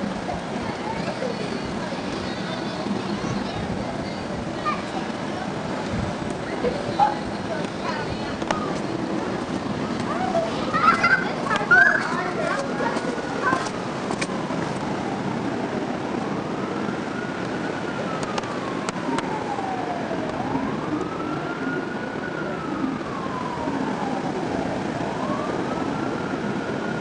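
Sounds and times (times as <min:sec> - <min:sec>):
emergency vehicle siren wailing: 0:00.0 - 0:27.0
steady rushing background noise: 0:00.0 - 0:27.0.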